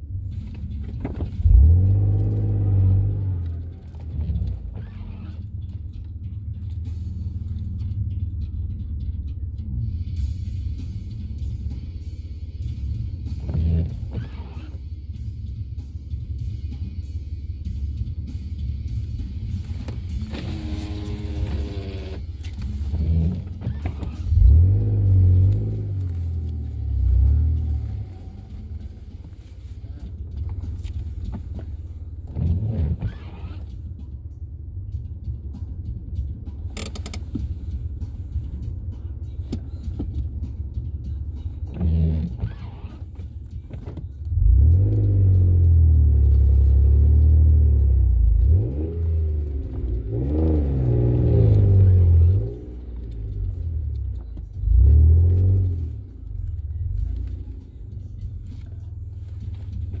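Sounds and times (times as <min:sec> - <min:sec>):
vehicle engine rumbling and revving: 0:00.0 - 1:00.0.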